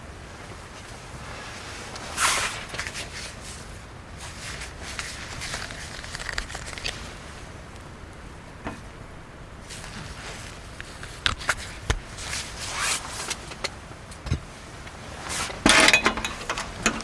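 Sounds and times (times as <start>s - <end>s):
rustling and handling noises: 0.4s - 17.0s.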